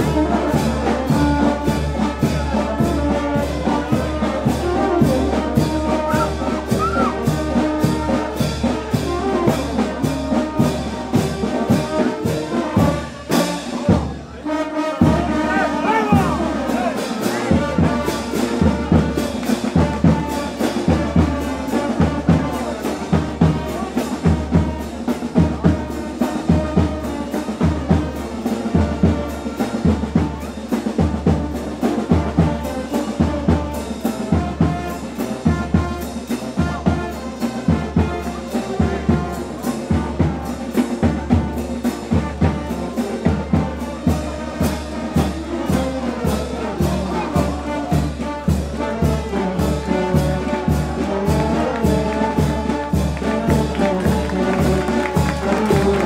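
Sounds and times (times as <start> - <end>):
brass band playing: 0.0 - 56.0
steady drum beat: 0.0 - 56.0.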